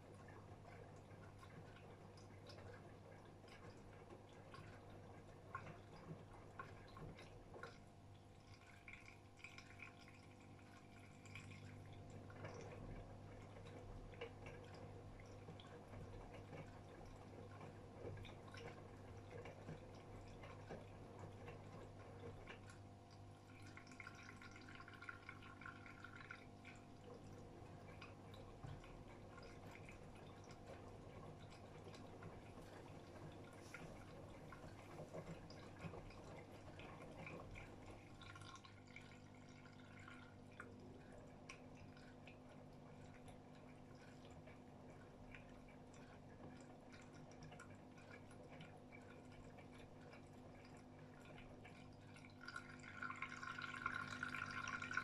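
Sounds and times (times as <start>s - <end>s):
water sloshing in washing machine: 0.0s - 55.0s.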